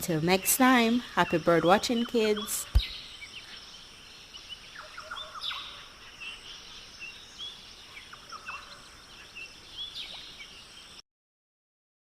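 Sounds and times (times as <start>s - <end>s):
steady high hiss: 0.0s - 11.0s
birds chirping and whistling: 0.8s - 10.5s.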